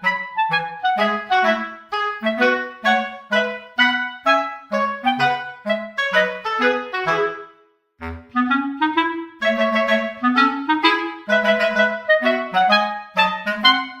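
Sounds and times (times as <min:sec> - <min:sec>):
clarinet melody: 0:00.0 - 0:14.0.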